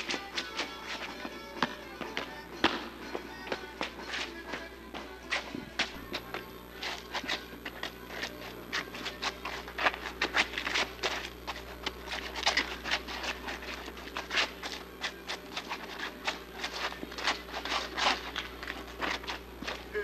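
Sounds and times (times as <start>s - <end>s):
shoes tapping on concrete: 0.0s - 20.0s.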